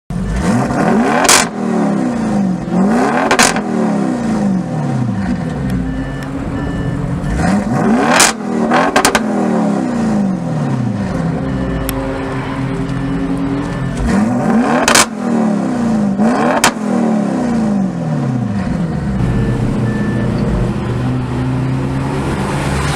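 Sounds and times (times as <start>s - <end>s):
car engine accelerating hard: 0.1s - 22.9s.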